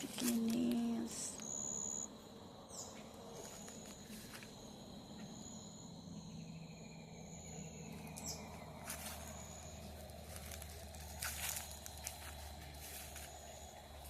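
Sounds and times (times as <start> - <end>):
insects high trill: 0.0 - 14.0
insects low steady trill: 0.0 - 14.0.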